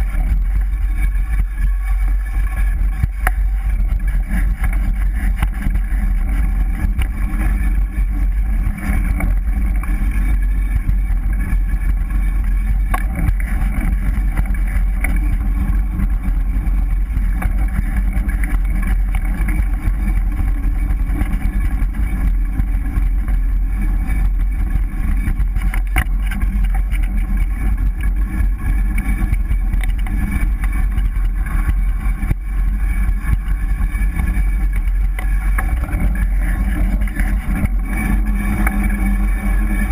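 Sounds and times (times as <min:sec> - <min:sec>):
bike rumble and rattle: 0:00.0 - 0:39.9.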